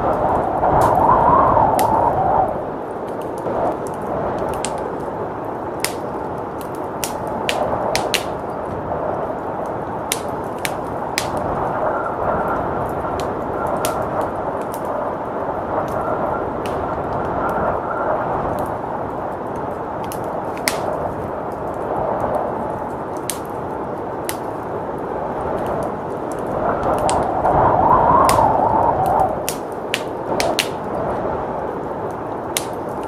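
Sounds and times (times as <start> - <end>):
blizzard wind: 0.0 - 33.0
wood fire crackling: 0.0 - 33.0.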